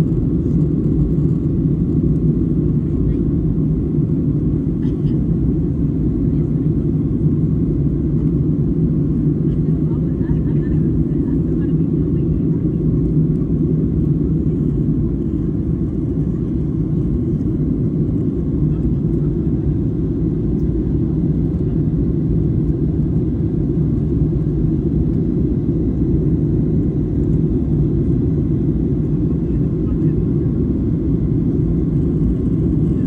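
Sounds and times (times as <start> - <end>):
airliner cabin engine rumble: 0.0 - 33.0
steady low hum: 0.0 - 33.0.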